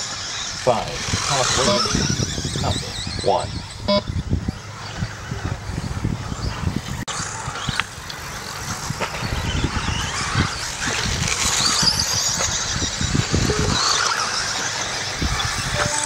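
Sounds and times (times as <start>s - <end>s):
rc car motors whining: 0.0s - 16.0s.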